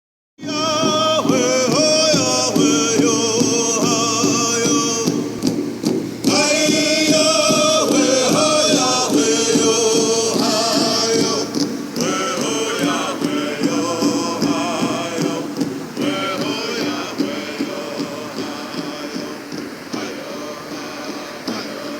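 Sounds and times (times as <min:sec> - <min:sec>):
song with singing: 0:00.4 - 0:21.9.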